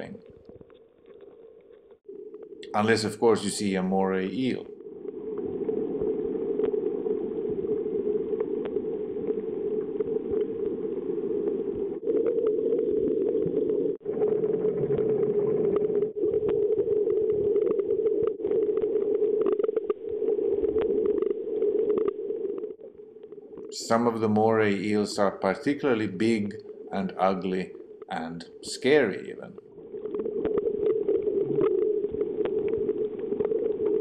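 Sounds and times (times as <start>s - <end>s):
muffled underwater rush: 1.8s - 34.0s.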